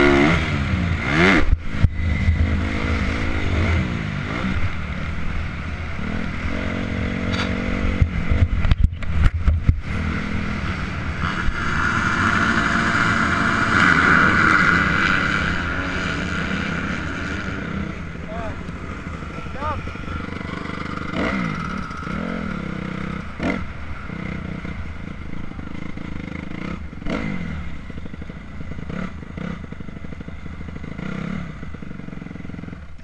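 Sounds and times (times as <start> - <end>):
motocross engine revving: 0.0 - 5.3, 9.6 - 32.9.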